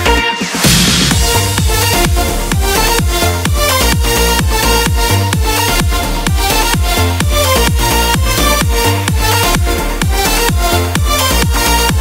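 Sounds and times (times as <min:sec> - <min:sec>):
kick-drum beat: 0:00.0 - 0:12.0
sustained synth chords: 0:00.6 - 0:12.0.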